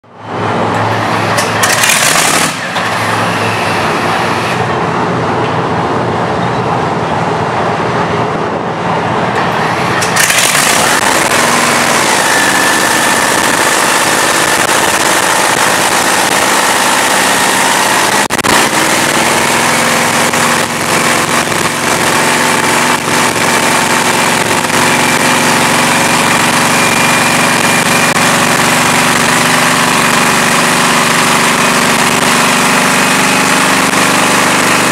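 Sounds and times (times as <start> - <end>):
dragster engine running rough: 0.2 - 34.9.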